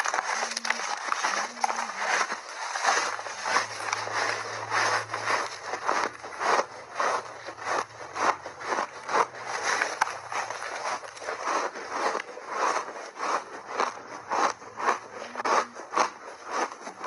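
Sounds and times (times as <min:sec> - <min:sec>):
crunching and chewing ice: 0:00.0 - 0:17.0.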